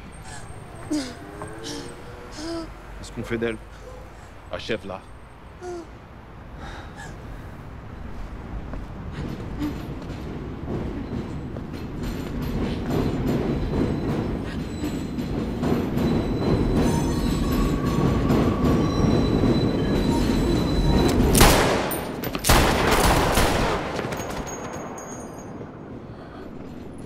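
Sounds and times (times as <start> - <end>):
train rumbling over steel viaduct: 0.0 - 22.9.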